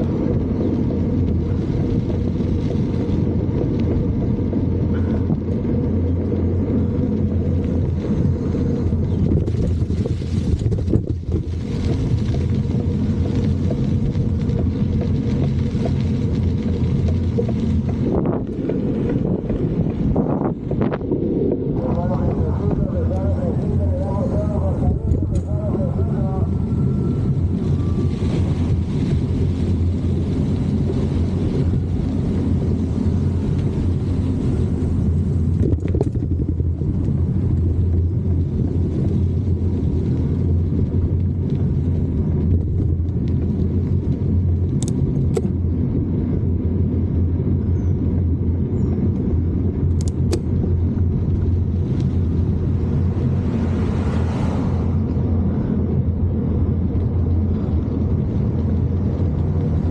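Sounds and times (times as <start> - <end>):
bicycle tyre noise: 0.0 - 59.9
wind rumble: 0.0 - 59.9.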